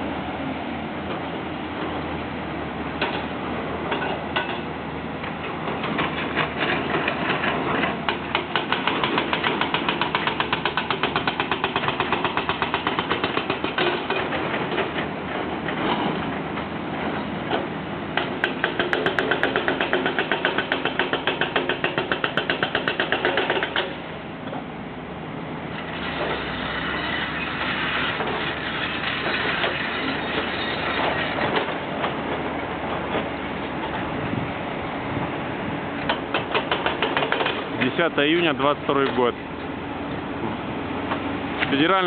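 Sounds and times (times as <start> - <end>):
construction machinery working: 0.0 - 42.0.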